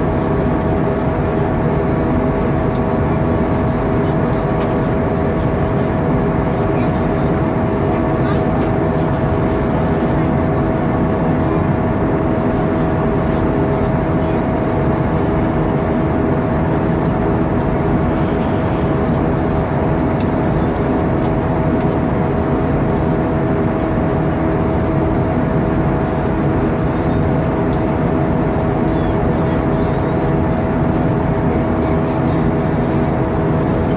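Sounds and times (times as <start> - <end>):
airliner cabin noise: 0.0 - 33.9
mid-pitched whine: 0.0 - 33.9.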